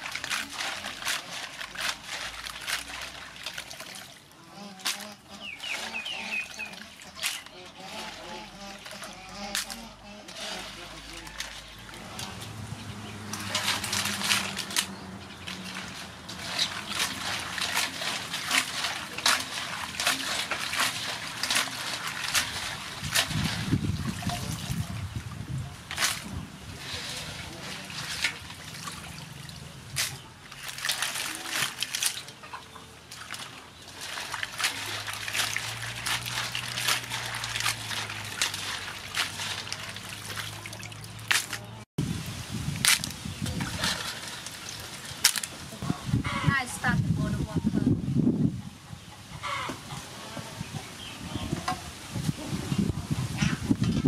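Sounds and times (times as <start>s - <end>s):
water sloshing in a basin: 0.0s - 47.7s.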